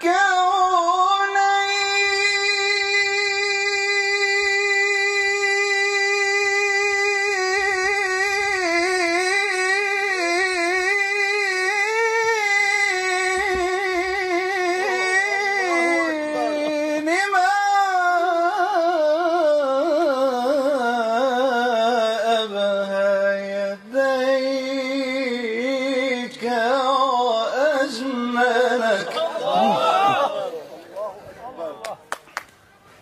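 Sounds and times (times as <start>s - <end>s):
man singing melismatic devotional song: 0.0s - 30.3s.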